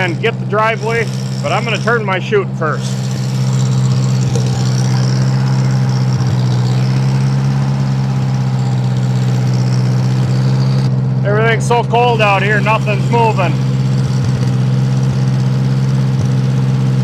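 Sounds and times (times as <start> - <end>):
snowblower engine idling: 0.0 - 17.0.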